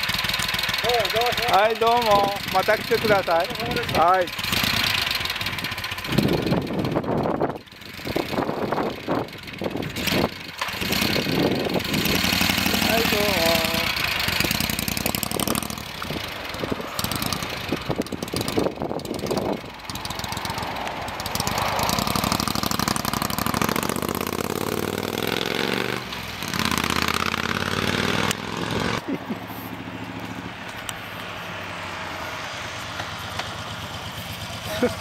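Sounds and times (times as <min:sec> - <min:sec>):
motorcycle accelerating through gears: 0:00.0 - 0:35.0
second motorcycle engine approaching: 0:00.0 - 0:35.0.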